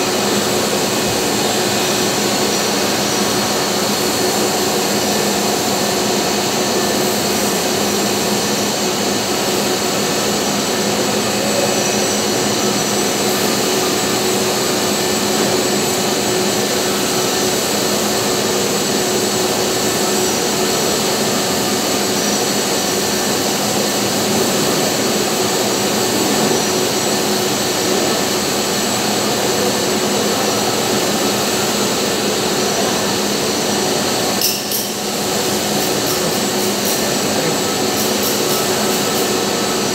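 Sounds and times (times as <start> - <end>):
shop machinery running: 0.0 - 39.9.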